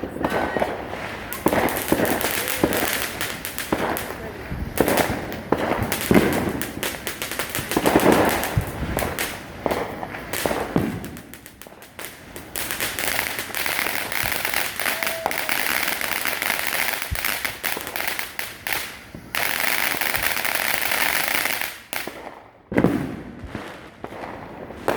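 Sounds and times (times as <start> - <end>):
firework fountains crackling and hissing: 0.0 - 24.9.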